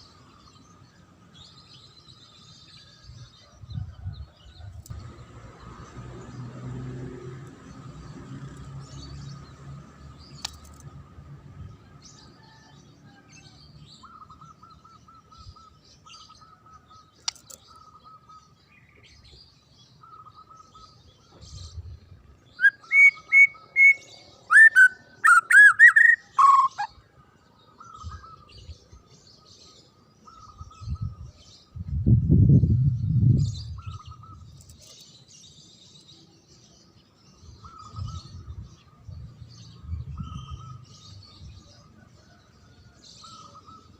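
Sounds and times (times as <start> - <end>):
bird singing: 0.0 - 43.9.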